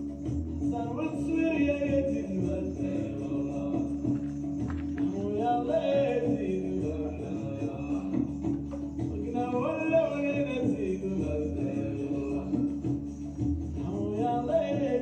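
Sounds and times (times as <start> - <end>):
held instrumental tones: 0.0 - 15.0
person singing: 0.7 - 13.0, 13.8 - 15.0.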